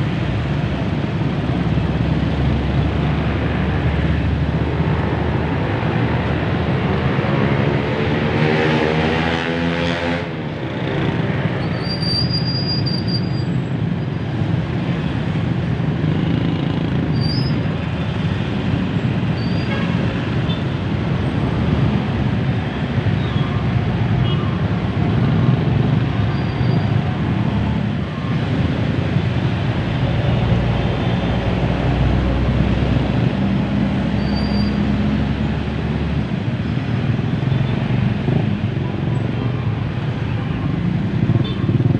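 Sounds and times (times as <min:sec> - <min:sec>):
road traffic: 0:00.0 - 0:41.9.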